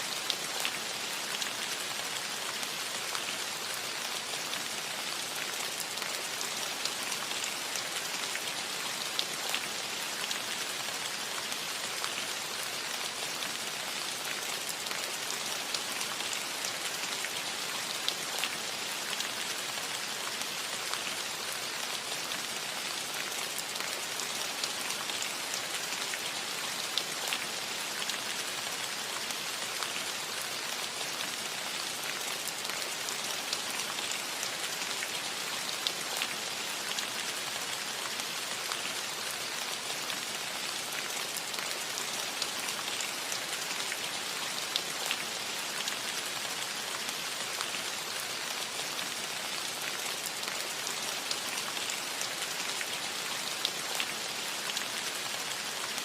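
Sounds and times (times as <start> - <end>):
rain on a roof: 0.0 - 56.0.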